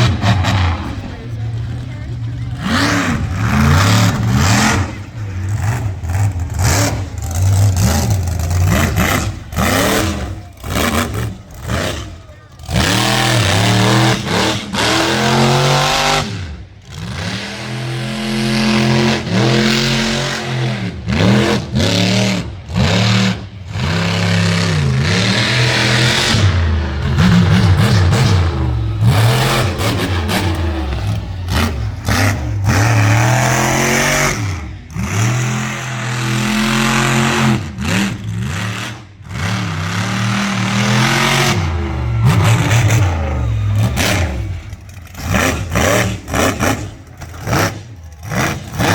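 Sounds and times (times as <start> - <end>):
car engines revving hard: 0.0 - 48.9.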